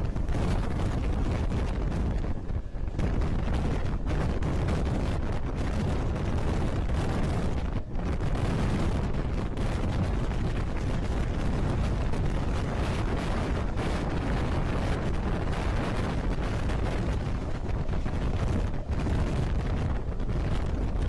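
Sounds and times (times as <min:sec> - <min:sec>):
train wheels rumbling on rail: 0:00.0 - 0:21.0
wind buffeting microphone: 0:00.0 - 0:21.0.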